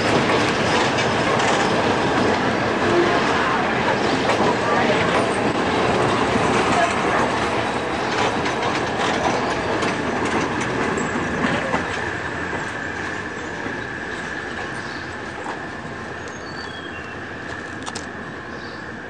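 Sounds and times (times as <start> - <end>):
train wheels clacking: 0.0 - 16.7.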